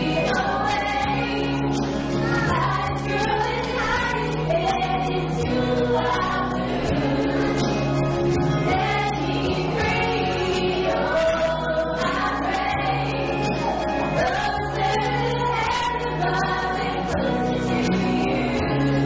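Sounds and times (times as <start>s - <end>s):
group singing: 0.0s - 19.0s
music with steady beat: 0.0s - 19.0s.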